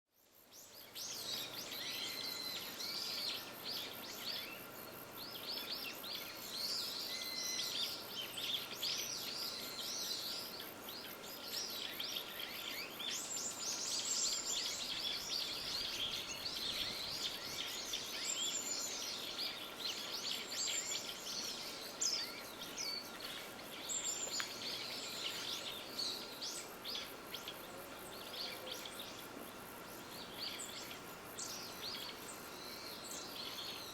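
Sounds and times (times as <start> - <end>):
faint steady hiss: 0.1 - 33.9
small birds chirping: 0.4 - 33.9.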